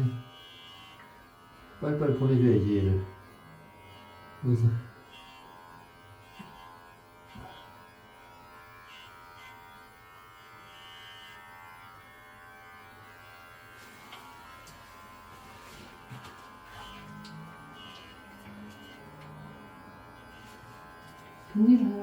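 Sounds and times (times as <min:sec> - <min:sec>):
electric hair clipper buzzing: 0:00.0 - 0:22.0.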